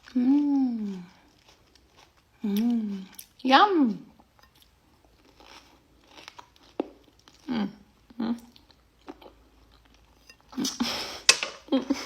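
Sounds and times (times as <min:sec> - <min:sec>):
person chewing fruit: 0:00.0 - 0:03.4, 0:04.2 - 0:11.2.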